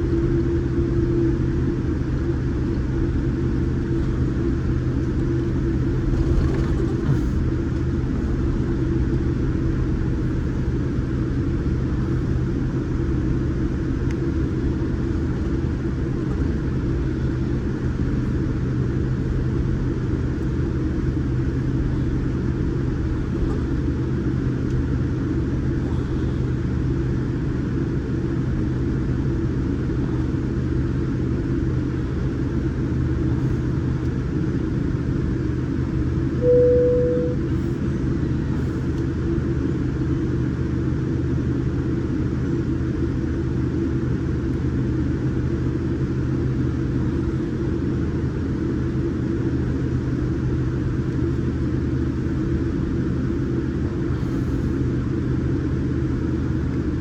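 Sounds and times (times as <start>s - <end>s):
airplane cabin rumble: 0.0s - 57.0s
steady hum: 0.0s - 57.0s.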